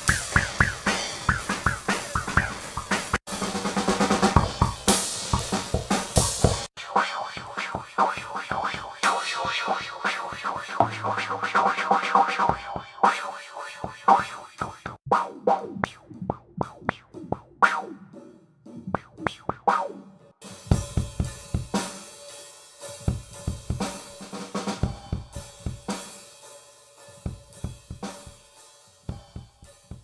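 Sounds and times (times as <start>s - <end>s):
drum kit playing: 0.0s - 17.4s, 20.4s - 30.0s.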